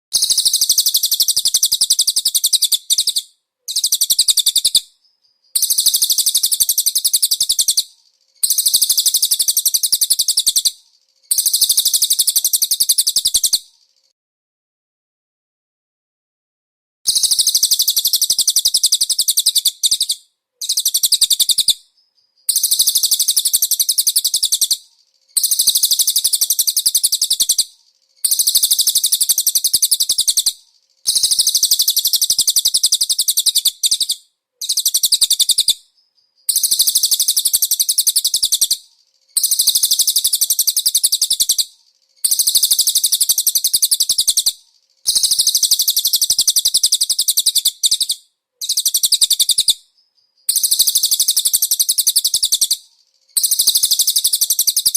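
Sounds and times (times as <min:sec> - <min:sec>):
songbird chattering trill: 0:00.2 - 0:14.1, 0:17.1 - 0:38.8, 0:39.4 - 0:52.8, 0:53.4 - 0:54.9.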